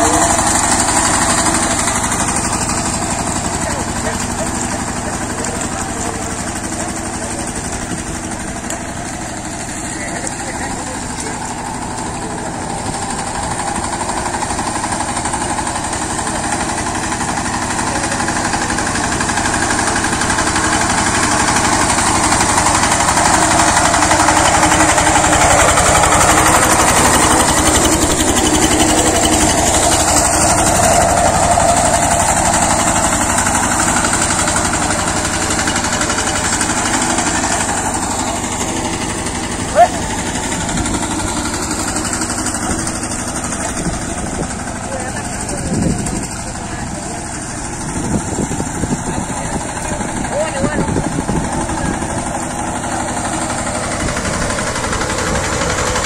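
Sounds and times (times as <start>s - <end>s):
power tiller engine running: 0.0s - 56.0s.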